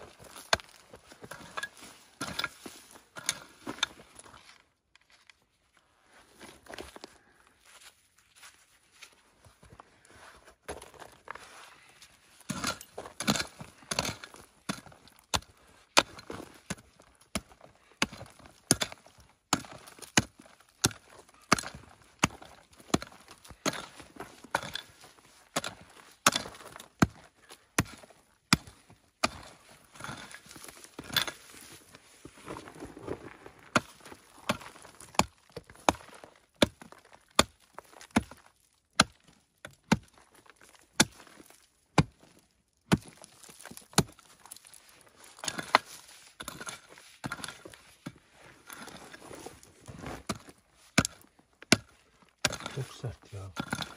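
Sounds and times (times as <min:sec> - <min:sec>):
pickaxe striking stony soil: 0:00.0 - 0:04.4, 0:12.4 - 0:31.7, 0:32.4 - 0:53.9
gravel and clods rattling: 0:00.0 - 0:05.2, 0:10.7 - 0:39.4, 0:40.1 - 0:53.9.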